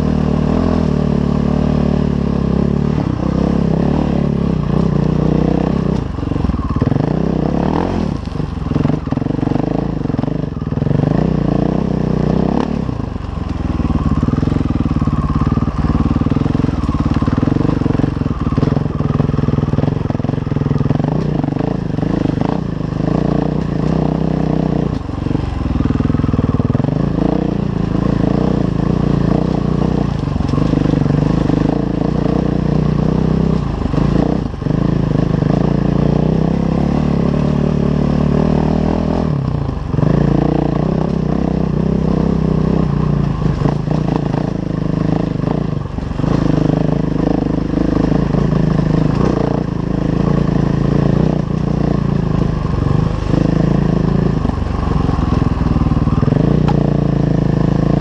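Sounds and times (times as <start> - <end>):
motorcycle engine under load: 0.0 - 58.0.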